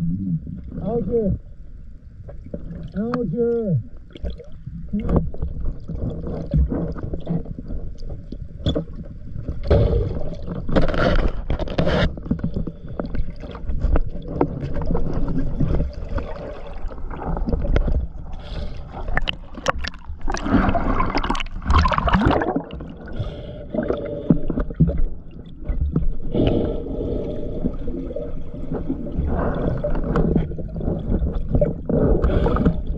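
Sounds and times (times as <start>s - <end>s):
underwater water churning: 3.8s - 32.9s.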